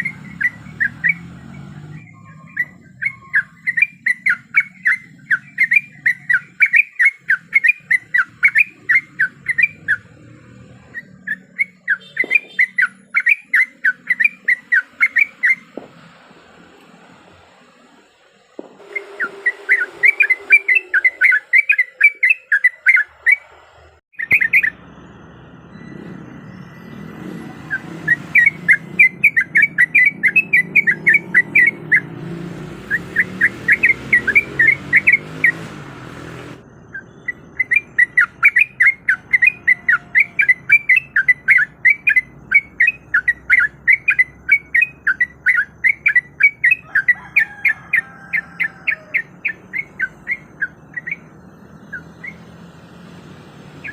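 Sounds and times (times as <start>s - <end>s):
bird chirping song: 0.0s - 15.9s, 17.6s - 35.8s, 36.6s - 53.9s.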